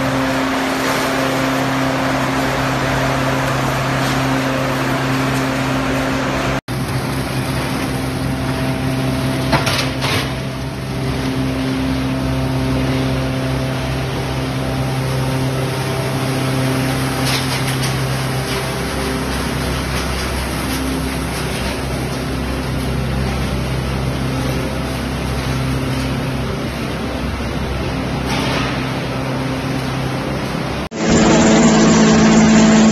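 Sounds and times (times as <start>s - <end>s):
hammer mill running: 0.0s - 32.9s.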